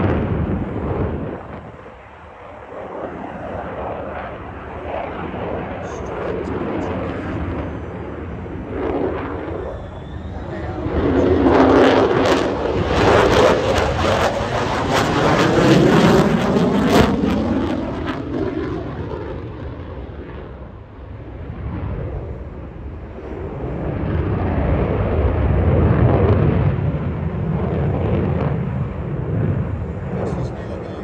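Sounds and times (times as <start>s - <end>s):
jet engine afterburner roaring: 0.0s - 31.0s.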